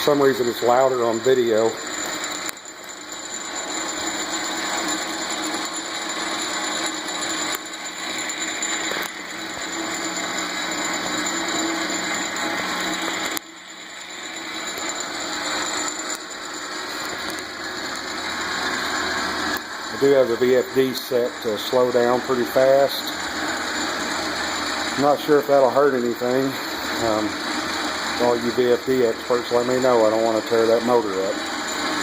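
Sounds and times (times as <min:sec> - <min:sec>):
lathe motor whirring: 0:00.0 - 0:32.0.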